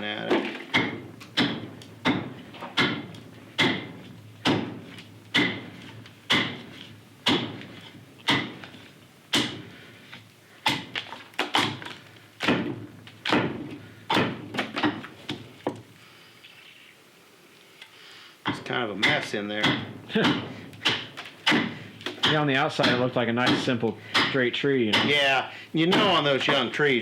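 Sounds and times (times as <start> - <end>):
axe chopping wet wood: 0.2 - 9.7, 10.6 - 15.4, 18.4 - 26.7.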